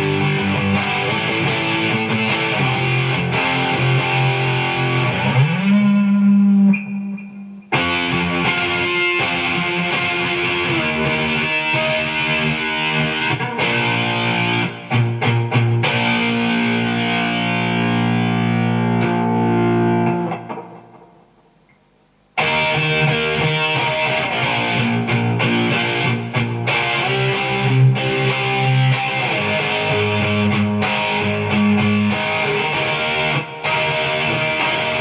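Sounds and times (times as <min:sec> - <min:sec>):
distorted electric guitar: 0:00.0 - 0:35.0.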